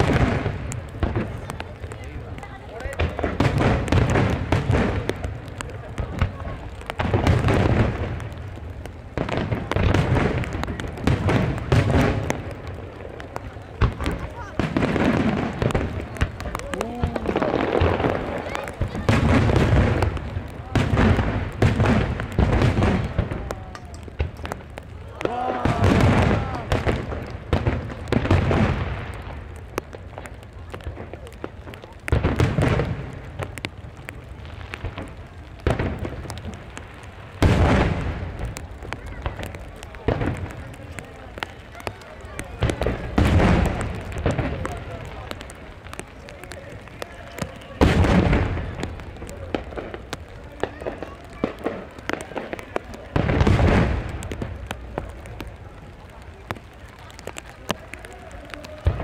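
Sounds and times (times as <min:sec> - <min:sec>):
fireworks booming: 0:00.0 - 0:59.0
fireworks crackling: 0:00.0 - 0:59.0
steady rain: 0:00.0 - 0:59.0.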